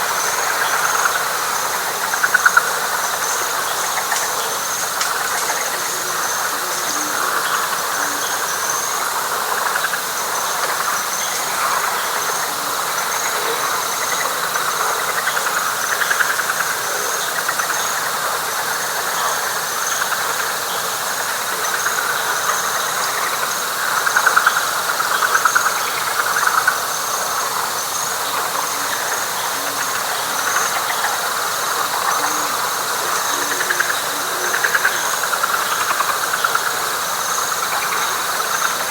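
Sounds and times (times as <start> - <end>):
frogs calling in chorus: 0.0 - 38.9
high insect trill: 0.0 - 38.9.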